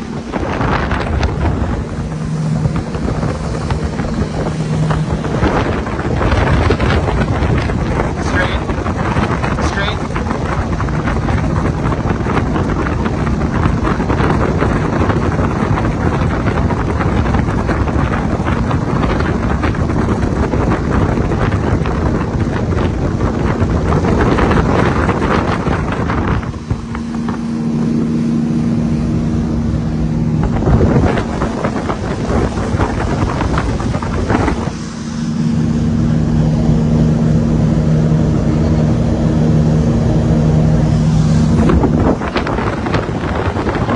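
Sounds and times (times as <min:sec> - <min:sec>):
boat engine humming: 0:00.0 - 0:43.9
water rushing past a hull: 0:00.0 - 0:43.9
wind buffeting the microphone: 0:00.0 - 0:43.9.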